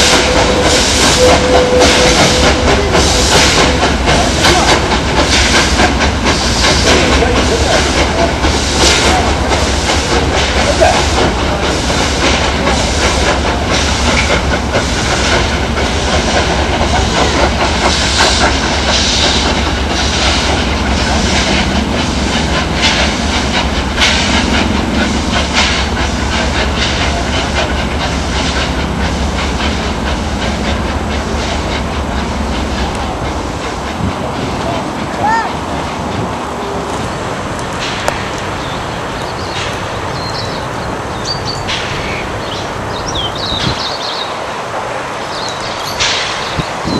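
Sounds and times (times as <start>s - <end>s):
train wheels clattering over rail joints: 0.0s - 46.9s.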